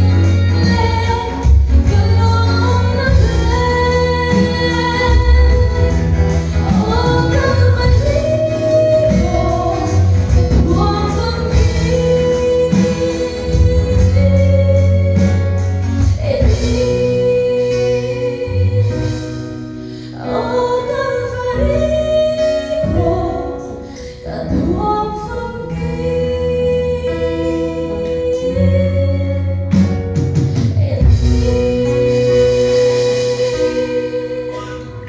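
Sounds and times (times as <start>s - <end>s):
instrumental accompaniment: 0.0s - 35.0s
woman singing into microphone: 0.0s - 35.0s.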